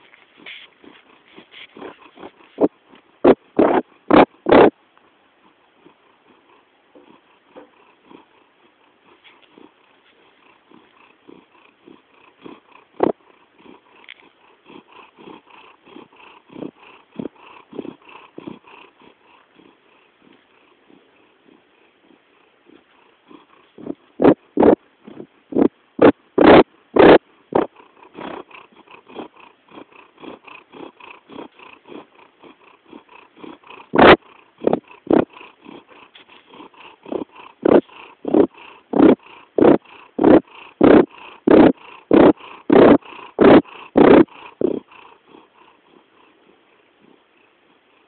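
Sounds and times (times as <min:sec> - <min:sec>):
pet purring or snoring: 0:00.0 - 0:04.8, 0:05.4 - 0:48.0.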